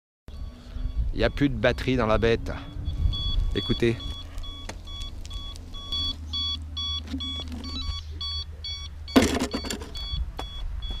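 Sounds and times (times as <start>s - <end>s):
short electronic beeps: 0.3s - 11.0s.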